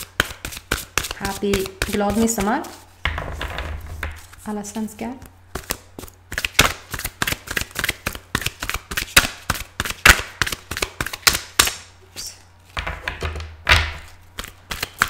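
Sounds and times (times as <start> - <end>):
cards being shuffled: 0.0 - 4.5, 5.2 - 11.8, 13.9 - 15.0.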